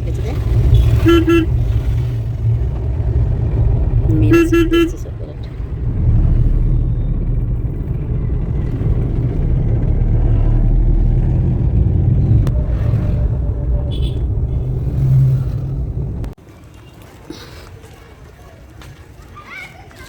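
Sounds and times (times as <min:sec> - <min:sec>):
vehicle rumbling on road: 0:00.0 - 0:20.0.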